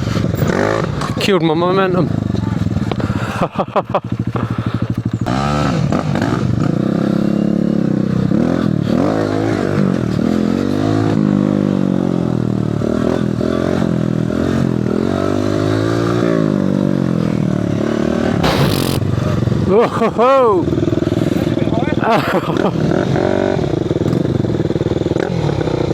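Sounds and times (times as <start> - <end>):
mini motorbike engine revving: 0.0 - 1.3, 4.1 - 25.9.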